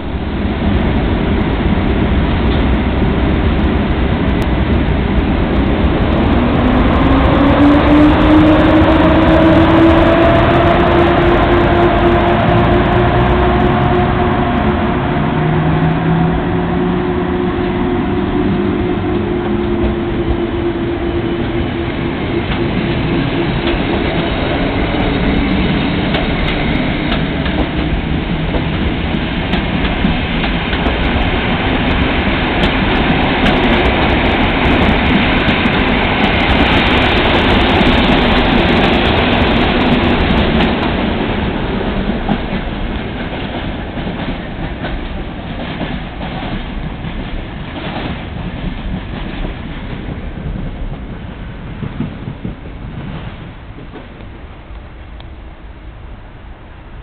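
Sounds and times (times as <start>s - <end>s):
train coaches rumbling past: 0.0s - 57.0s.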